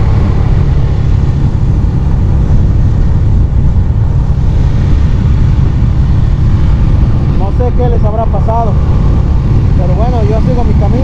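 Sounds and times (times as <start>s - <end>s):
motorcycle running: 0.0s - 11.0s
wind buffeting microphone: 0.0s - 11.0s.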